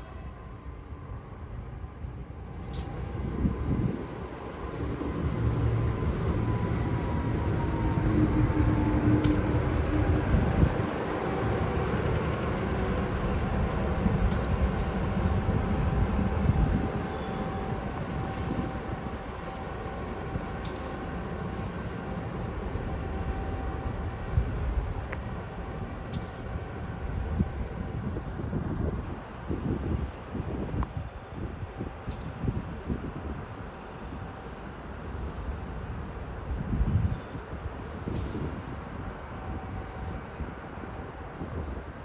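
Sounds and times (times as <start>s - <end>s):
freight train rumbling on rails: 0.0s - 42.0s.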